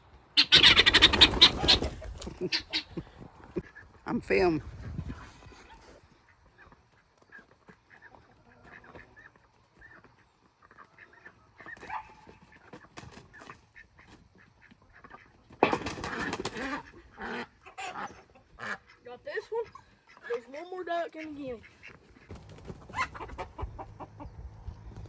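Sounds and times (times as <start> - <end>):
duck commotion: 0.4 - 4.1, 5.1 - 24.4
ducks quacking: 0.4 - 24.5.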